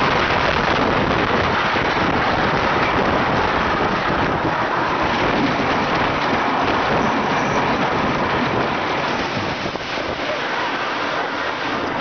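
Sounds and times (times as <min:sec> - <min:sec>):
wind on microphone: 0:00.0 - 0:10.4
roller coaster wheels on track: 0:00.0 - 0:12.0.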